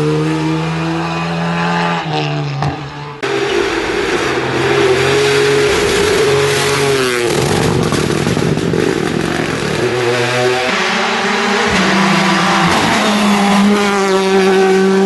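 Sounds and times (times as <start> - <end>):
rally car engine revving: 0.0 - 15.0
rally car engine steady pitch: 0.0 - 15.0.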